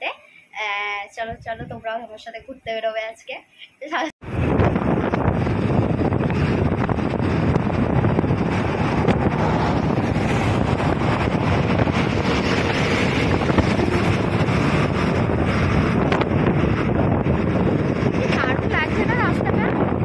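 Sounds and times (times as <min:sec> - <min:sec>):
wind buffeting microphone: 0:01.0 - 0:02.5, 0:04.2 - 0:20.0
road and engine noise: 0:03.6 - 0:20.0.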